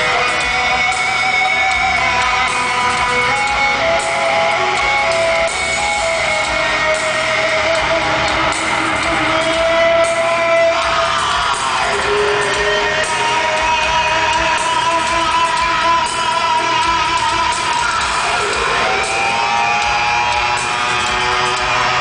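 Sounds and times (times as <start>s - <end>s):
electric guitars sustained notes: 0.0s - 22.0s
live heavy rock band: 0.0s - 22.0s.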